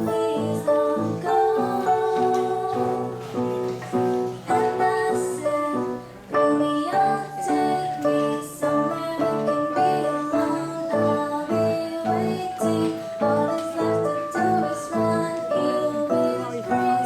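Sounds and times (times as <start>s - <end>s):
song with piano accompaniment: 0.0s - 17.0s.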